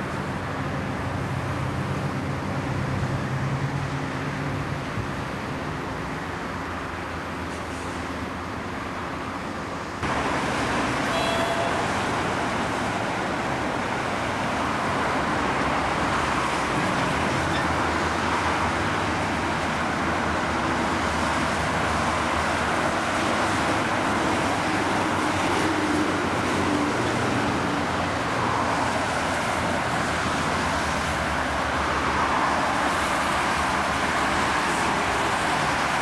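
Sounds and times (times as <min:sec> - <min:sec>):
motorway traffic noise: 0:00.0 - 0:36.0.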